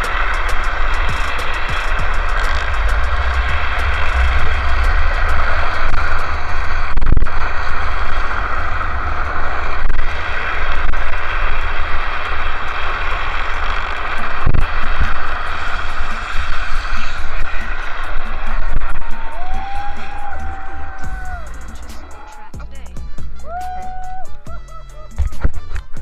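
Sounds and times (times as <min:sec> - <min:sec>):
plastic wheels sliding on asphalt: 0:00.0 - 0:22.2
wind buffeting microphone: 0:00.0 - 0:22.7.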